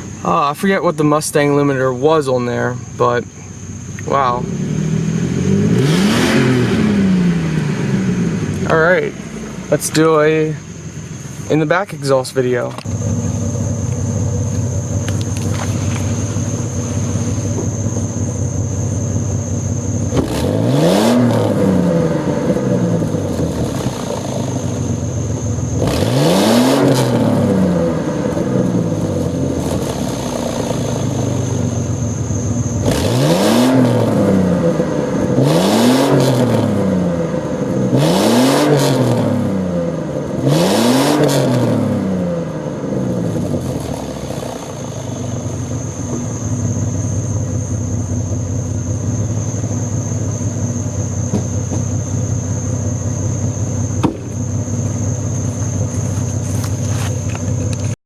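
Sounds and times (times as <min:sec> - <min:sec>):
car exhaust idling and revving: 0:00.0 - 0:58.0.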